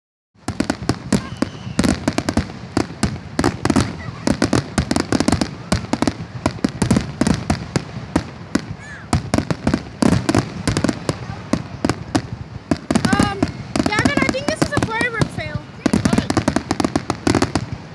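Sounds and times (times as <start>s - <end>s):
fireworks bangs and cracks: 0.4s - 17.9s.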